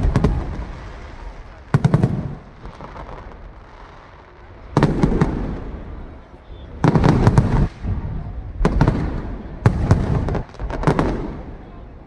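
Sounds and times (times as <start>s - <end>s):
low rumbling echo: 0.0s - 11.9s
fireworks bangs: 0.0s - 12.0s.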